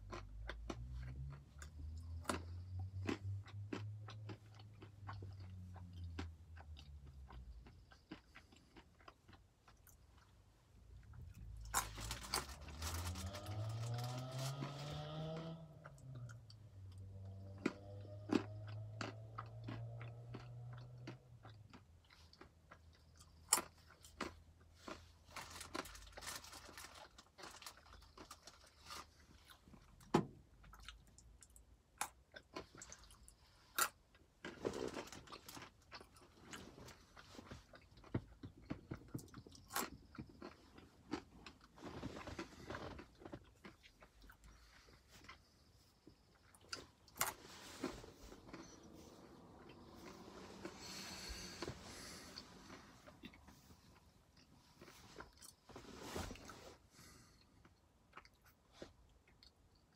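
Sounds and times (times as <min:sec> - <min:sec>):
nuts crunching when chewed: 0:00.0 - 0:55.6, 0:56.9 - 0:59.9.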